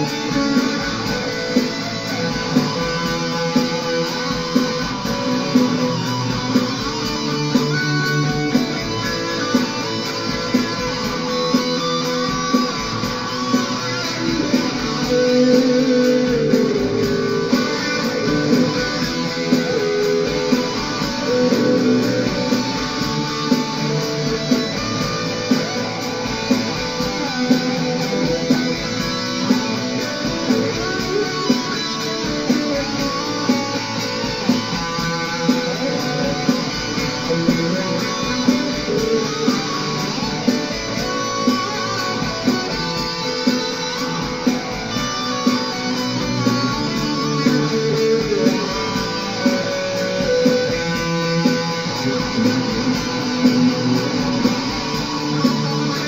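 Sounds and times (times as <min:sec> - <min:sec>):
instrumental guitar music: 0:00.0 - 0:56.0.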